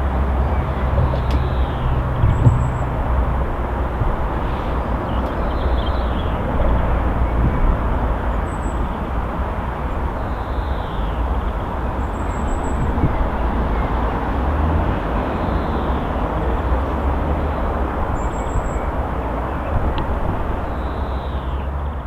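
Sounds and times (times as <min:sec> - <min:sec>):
train passing rumble: 0:00.0 - 0:22.0.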